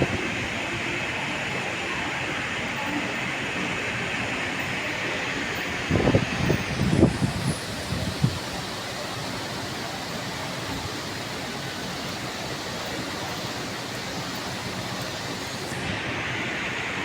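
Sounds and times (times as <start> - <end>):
train rushing noise: 0.0 - 17.0.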